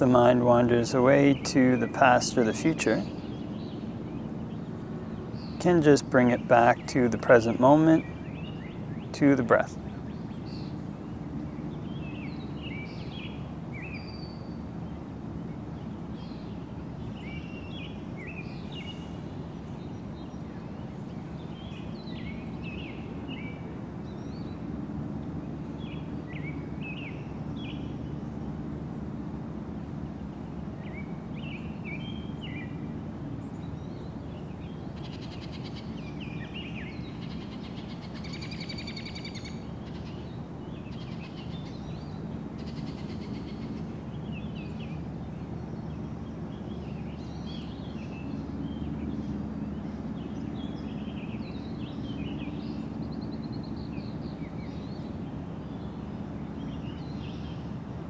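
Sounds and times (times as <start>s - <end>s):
low background rumble: 0.0s - 58.0s
songbirds chirping: 0.0s - 58.0s.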